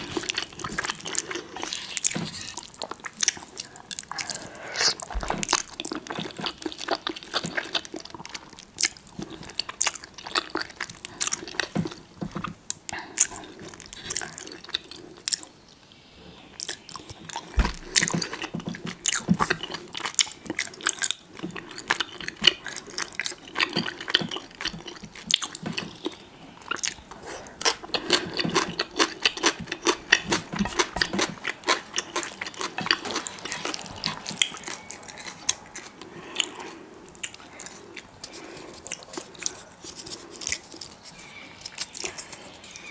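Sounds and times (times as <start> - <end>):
wet chewing and biting: 0.0 - 15.6, 16.6 - 42.9
food crunching: 0.0 - 15.9, 16.5 - 42.9.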